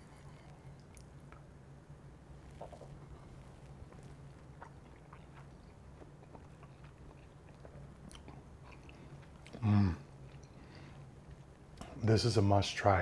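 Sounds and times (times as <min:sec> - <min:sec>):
person chewing quietly: 0:00.0 - 0:12.2.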